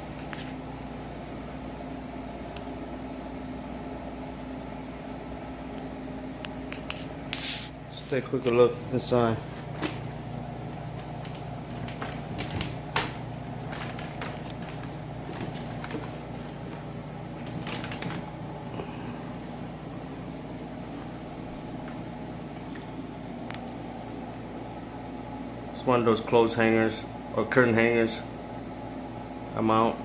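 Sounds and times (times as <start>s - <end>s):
air conditioner humming: 0.0s - 30.0s.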